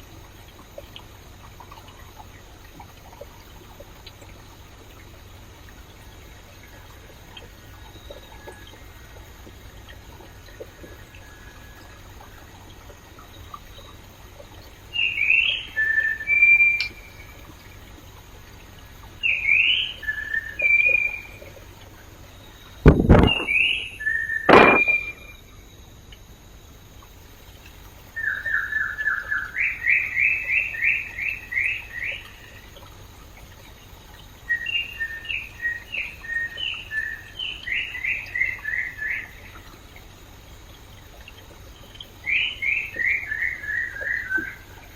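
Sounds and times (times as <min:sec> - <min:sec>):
songbird singing: 0:00.0 - 0:26.4, 0:27.0 - 0:44.9
flowing stream: 0:00.0 - 0:44.9.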